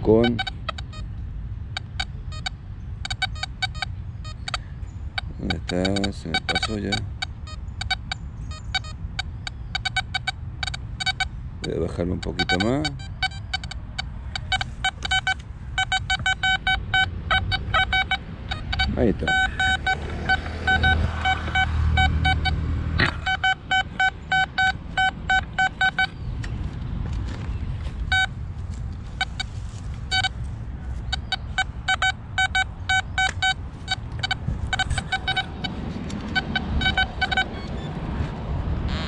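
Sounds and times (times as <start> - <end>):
metal detector beeping: 0.0 - 1.1, 1.7 - 4.6, 5.2 - 26.3, 28.0 - 28.4, 29.0 - 38.0.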